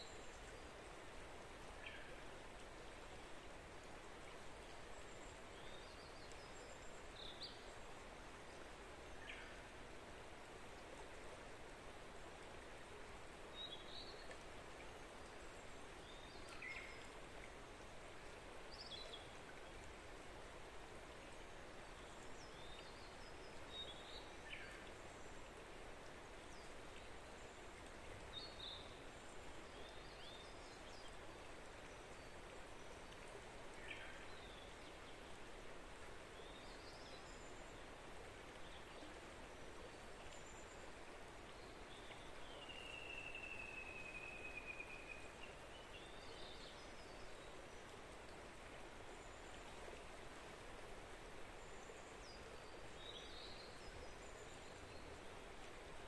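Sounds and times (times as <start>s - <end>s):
flowing water: 0.0s - 56.0s
songbirds chirping: 0.0s - 56.0s.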